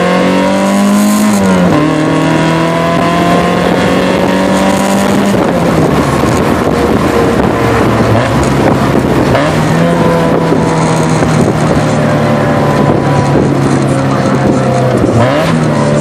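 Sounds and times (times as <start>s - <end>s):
car exhaust drone: 0.0s - 16.0s.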